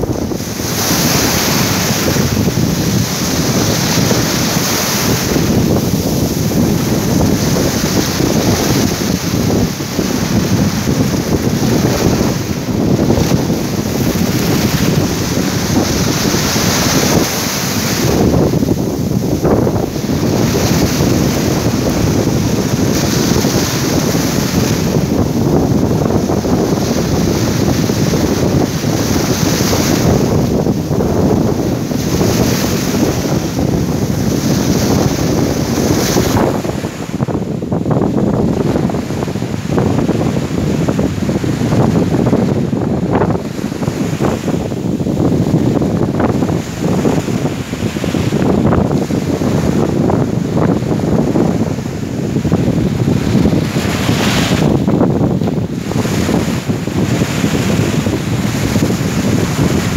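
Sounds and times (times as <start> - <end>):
sea waves and surf: 0.0 - 59.9
wind buffeting microphone: 0.0 - 59.9.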